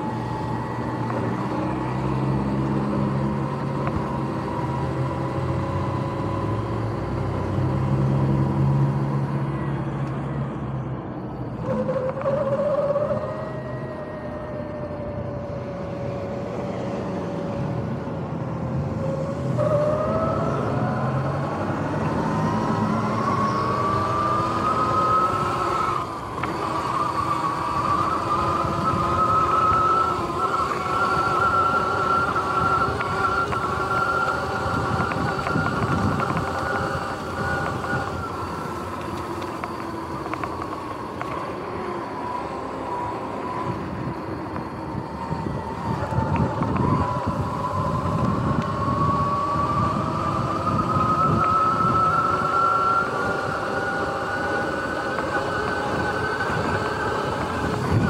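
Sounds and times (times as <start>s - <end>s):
electric motorbike whining: 0.0s - 58.0s.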